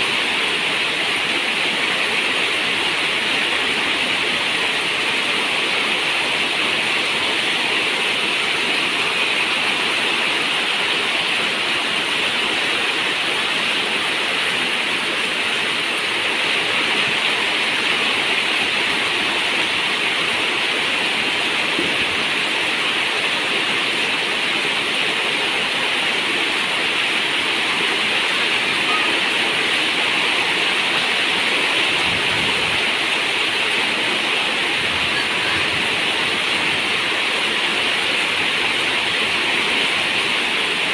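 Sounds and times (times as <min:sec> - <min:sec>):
rain on a metal roof: 0:00.0 - 0:40.9.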